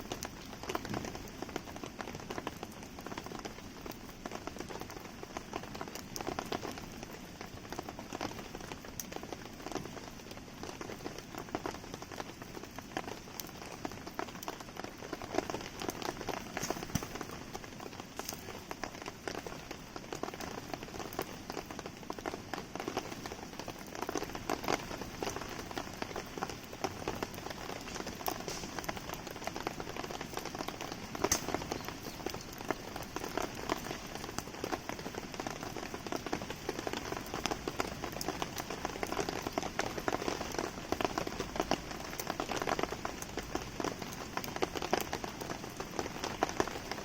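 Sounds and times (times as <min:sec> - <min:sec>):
campfire crackling and popping: 0:00.0 - 0:47.0
rain pattering: 0:00.0 - 0:47.0.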